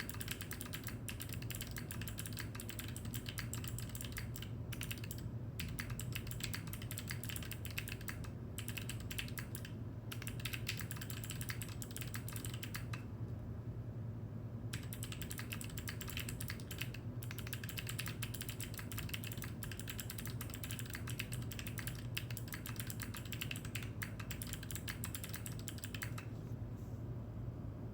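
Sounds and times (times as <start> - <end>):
typing on mechanical keyboard: 0.0 - 13.0, 14.7 - 26.3
low steady hum: 0.0 - 27.9.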